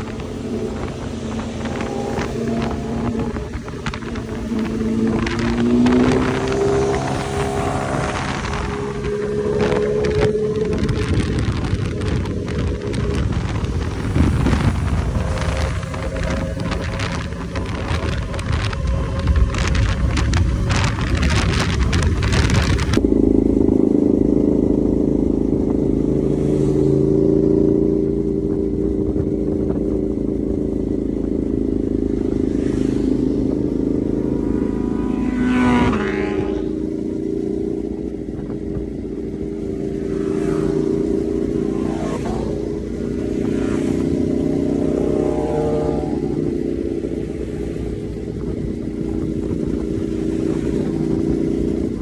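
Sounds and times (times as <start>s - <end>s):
motorcycle engines passing: 0.0s - 52.0s
wind rush from riding: 0.0s - 52.0s.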